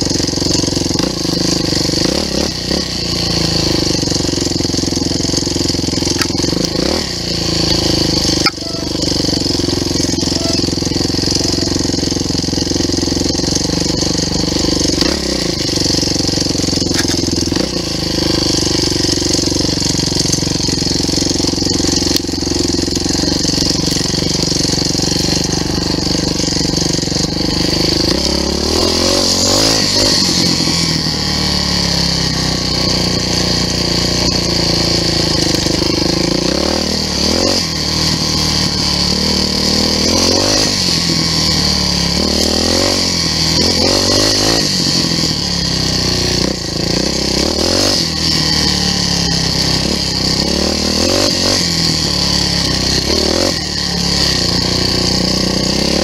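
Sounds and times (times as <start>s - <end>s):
off-road vehicle engine running: 0.0s - 56.0s.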